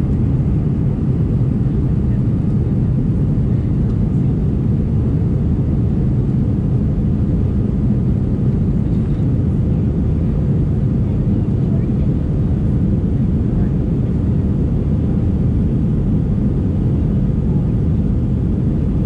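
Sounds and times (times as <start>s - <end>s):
jet engine cabin roar: 0.0s - 19.0s.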